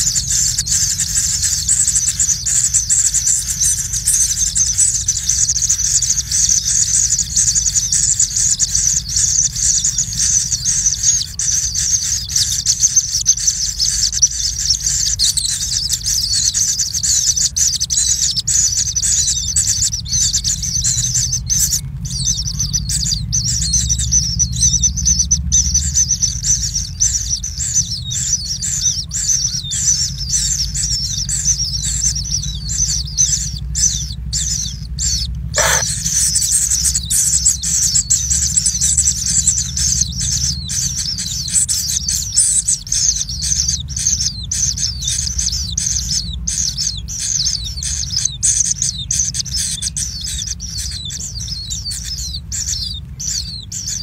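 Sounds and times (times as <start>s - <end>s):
nestlings chirping begging calls: 0.0s - 54.0s.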